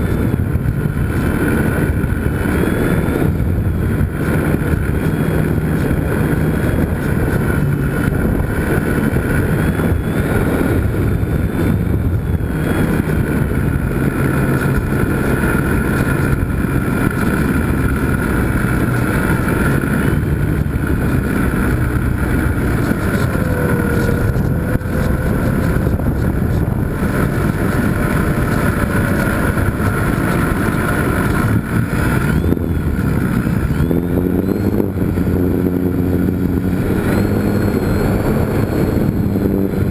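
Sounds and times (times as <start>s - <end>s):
rc airplane motor whine: 0.0s - 39.9s
wind rush on microphone: 0.0s - 39.9s.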